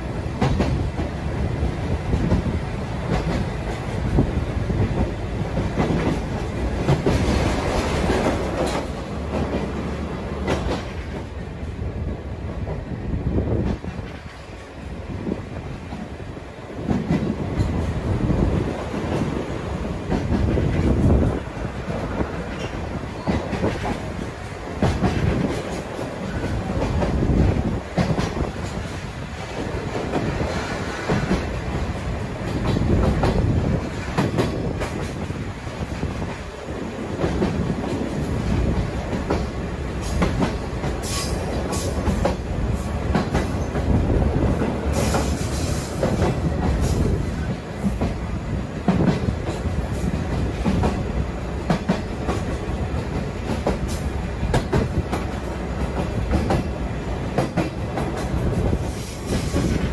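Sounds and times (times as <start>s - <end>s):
train wheels rumbling and rattling: 0.0s - 59.9s.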